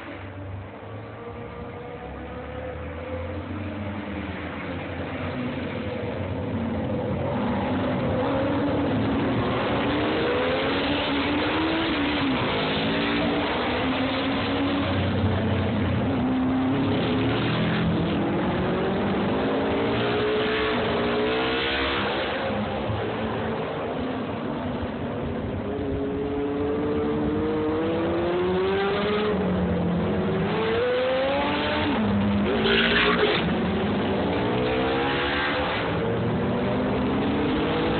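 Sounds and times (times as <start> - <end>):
racing motorcycle engines revving: 1.1 - 37.9.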